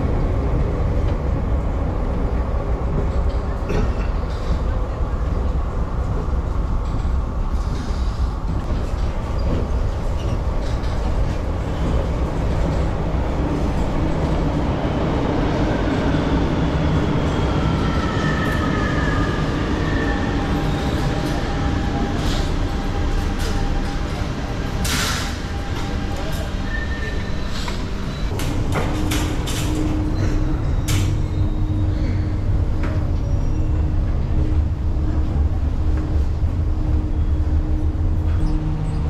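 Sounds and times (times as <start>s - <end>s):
subway train rumble: 0.0s - 39.0s.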